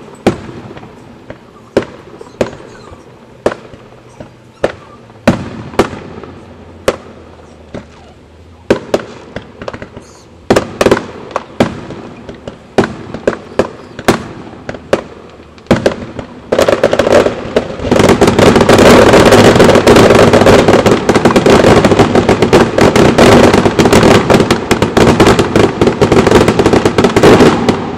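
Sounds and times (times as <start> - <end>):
rapid loud firework bangs: 0.0 - 27.9.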